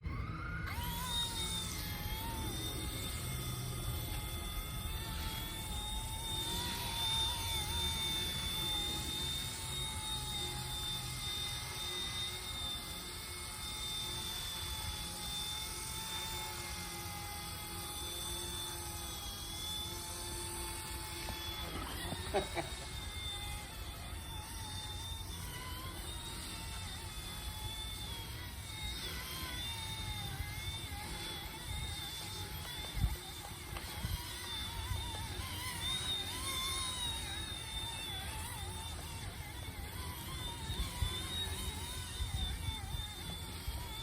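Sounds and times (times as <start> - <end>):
rc helicopter rotors whining: 0.0 - 44.0.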